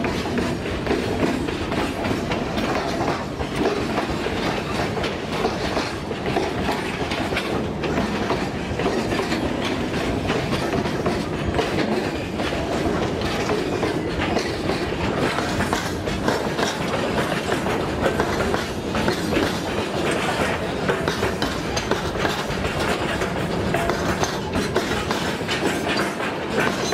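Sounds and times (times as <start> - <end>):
freight wagons rolling past: 0.0 - 26.9
steel wheels clacking over rail joints: 0.0 - 26.9.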